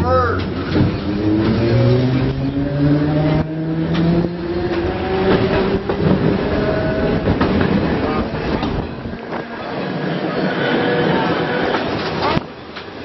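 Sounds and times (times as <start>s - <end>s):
streetcar motor whine: 0.0s - 13.0s
streetcar rumble and rattle: 0.0s - 13.0s
wheels clacking on rail joints: 0.2s - 13.0s.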